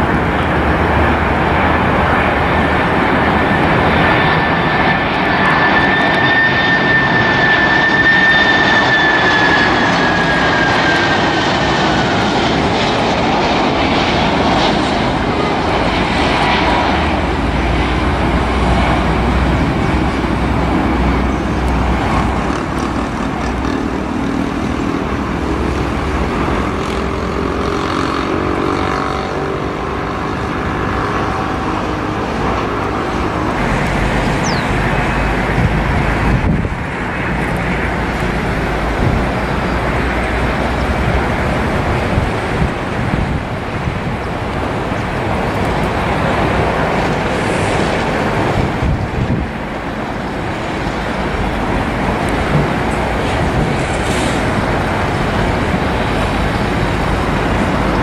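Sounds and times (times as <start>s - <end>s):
jet engines roaring with high whine: 0.0s - 58.0s.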